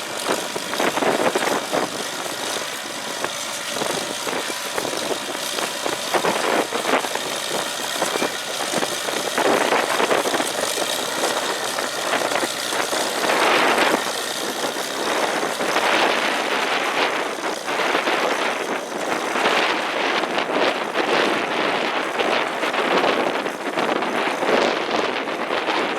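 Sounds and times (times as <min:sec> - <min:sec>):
engine running under load: 0:00.0 - 0:25.9
hay baler working: 0:00.0 - 0:25.9.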